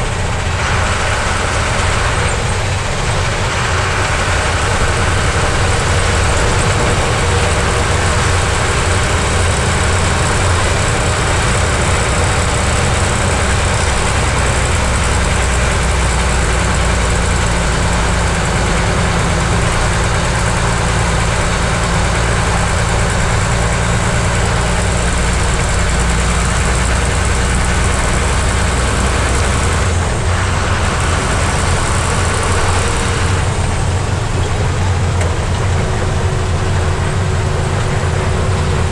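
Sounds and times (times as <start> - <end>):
truck diesel engine humming: 0.0 - 38.9.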